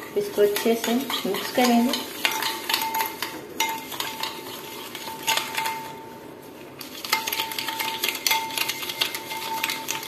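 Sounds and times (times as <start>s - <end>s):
metal spoon stirring in glass bowl: 0.0s - 10.0s.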